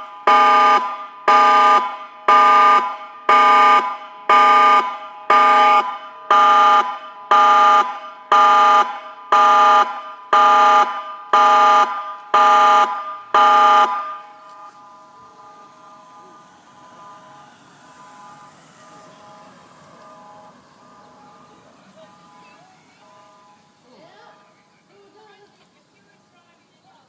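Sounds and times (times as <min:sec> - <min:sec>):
siren pulsed tone blasts: 0:00.0 - 0:24.7.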